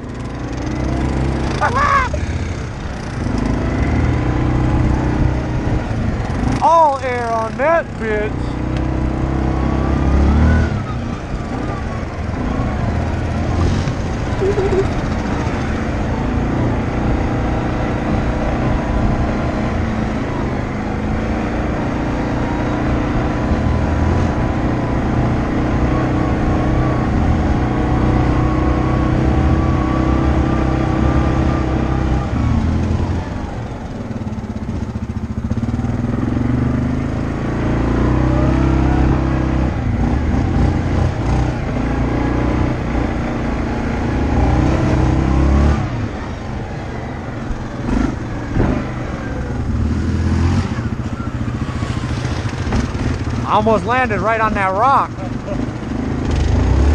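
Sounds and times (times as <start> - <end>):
atv engine running under load: 0.0 - 56.9.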